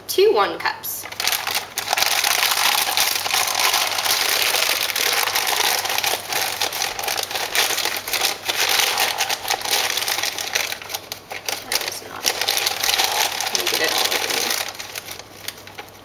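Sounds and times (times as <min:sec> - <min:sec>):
plastic bag crinkling: 0:01.0 - 0:16.0.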